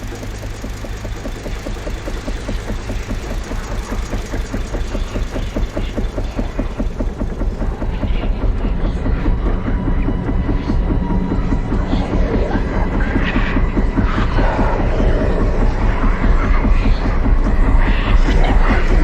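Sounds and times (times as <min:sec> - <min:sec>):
petrol lawnmower engine running: 0:00.0 - 0:19.0.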